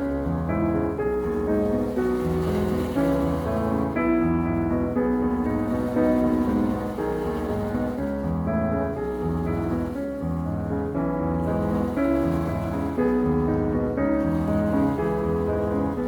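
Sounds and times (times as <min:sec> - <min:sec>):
calm slow piano music: 0:00.0 - 0:16.0.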